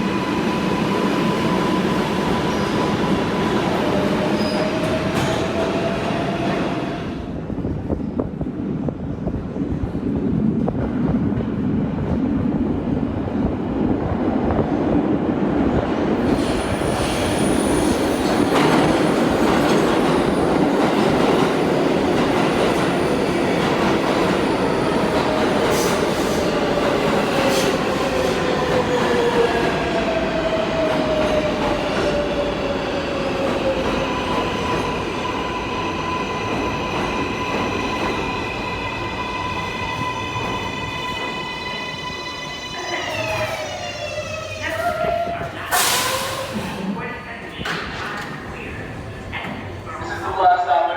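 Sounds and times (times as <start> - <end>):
train wheel and track noise: 0.0 - 50.9.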